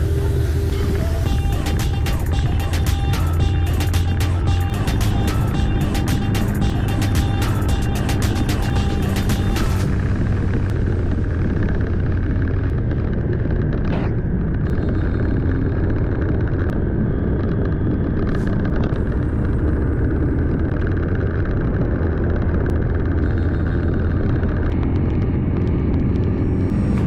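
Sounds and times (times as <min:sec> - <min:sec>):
motorcycle engine drone: 0:00.0 - 0:27.0.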